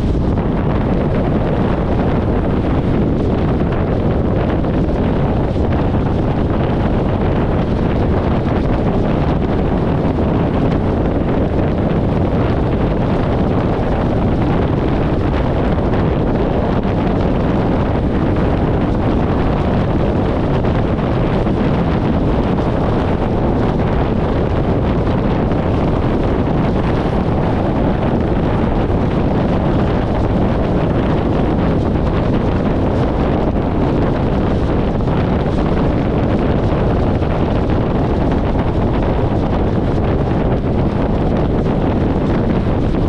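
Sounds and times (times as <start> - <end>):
wind rush on microphone: 0.0 - 43.0.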